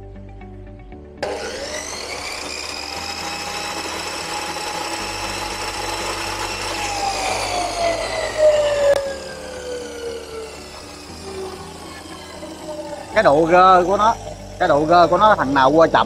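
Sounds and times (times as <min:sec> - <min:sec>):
cut-off saw motor whining: 0:01.2 - 0:16.0.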